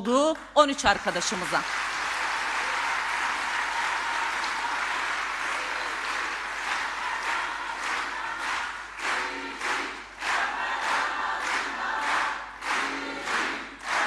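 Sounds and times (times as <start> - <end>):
rhythmic in-time clapping: 0.0 - 14.0
audience applause: 0.8 - 14.0.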